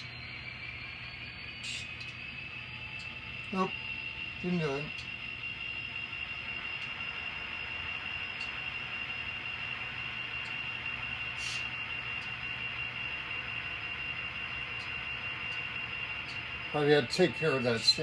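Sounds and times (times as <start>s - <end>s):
high-pitched electrical whine: 0.0s - 18.0s
low hum: 0.0s - 18.0s.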